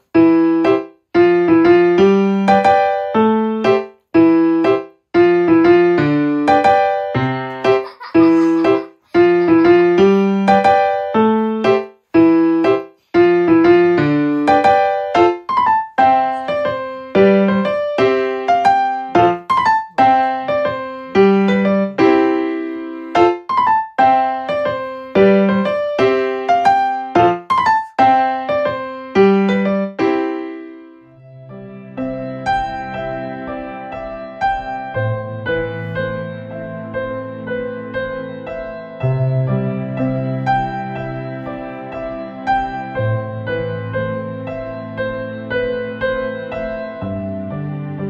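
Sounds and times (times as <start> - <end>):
gentle piano melody: 0.0 - 48.0.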